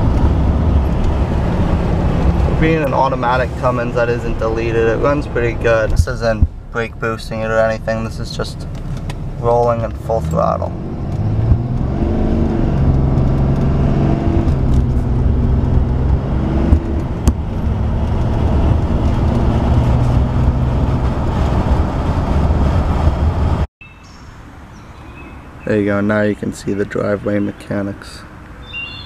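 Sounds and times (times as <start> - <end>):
diesel engine under full throttle: 0.0 - 23.7.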